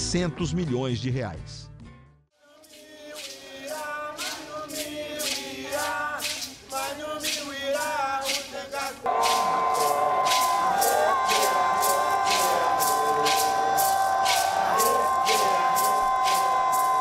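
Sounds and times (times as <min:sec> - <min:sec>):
percussion beat: 0:02.6 - 0:17.0
group of voices chanting: 0:02.8 - 0:17.0.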